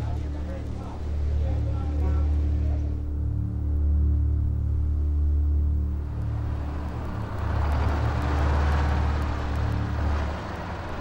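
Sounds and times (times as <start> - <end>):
low pulsing engine rumble: 0.0 - 11.0.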